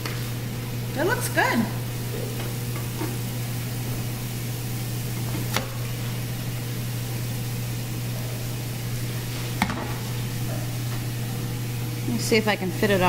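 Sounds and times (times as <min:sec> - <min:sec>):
steak sizzling on a griddle: 0:00.0 - 0:13.0.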